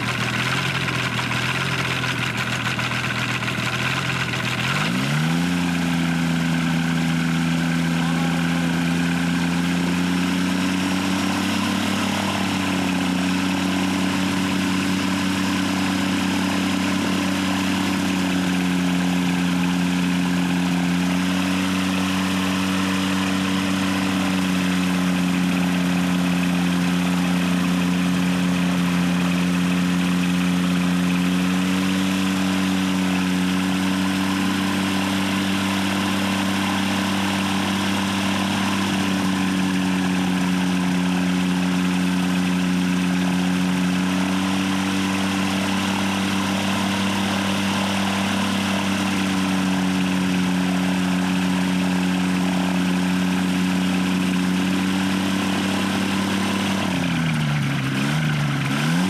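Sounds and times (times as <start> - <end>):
ultralight engine idling: 0.0 - 59.0.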